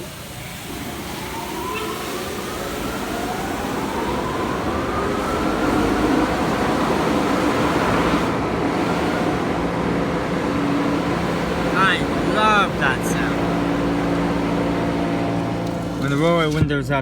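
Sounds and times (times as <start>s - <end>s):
blower dryer rushing air and whine: 0.0s - 16.6s.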